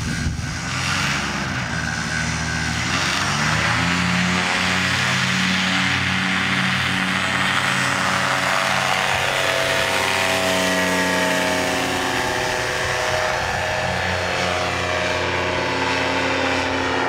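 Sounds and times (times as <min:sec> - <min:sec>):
ultralight engine and propeller: 0:00.0 - 0:17.0.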